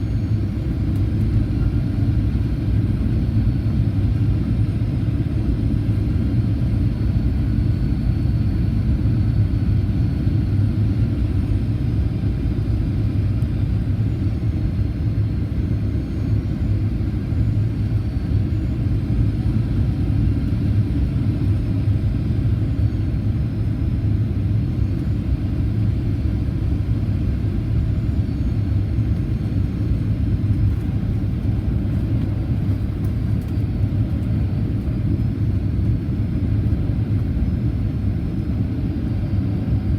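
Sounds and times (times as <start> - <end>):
faint high whine: 0.0 - 39.9
jet engines idling rumble: 0.0 - 39.9.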